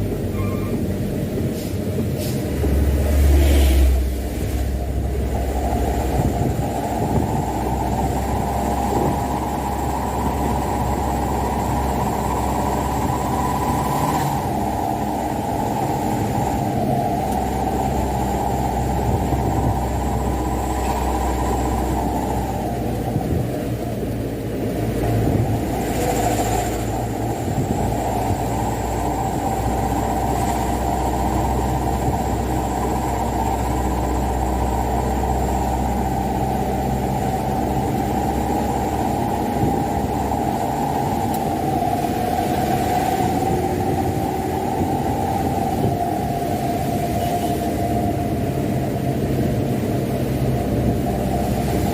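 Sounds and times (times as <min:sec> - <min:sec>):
diesel truck engine running: 0:00.0 - 0:51.9
road noise: 0:00.0 - 0:51.9.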